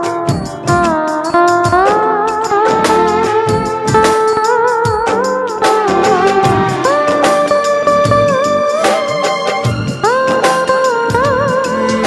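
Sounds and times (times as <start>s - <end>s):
sliding melody over steady beat: 0.0s - 12.0s.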